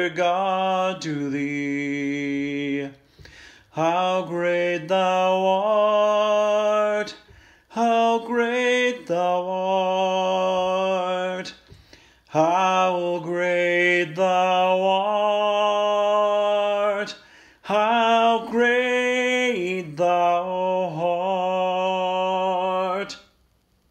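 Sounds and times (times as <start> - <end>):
man singing a hymn unaccompanied: 0.0 - 23.4.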